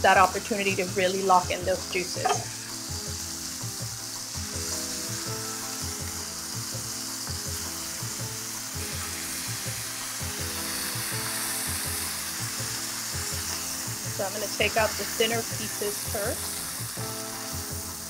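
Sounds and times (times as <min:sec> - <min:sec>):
background music with steady beat: 0:00.0 - 0:18.0
meat sizzling in a skillet: 0:00.0 - 0:18.0.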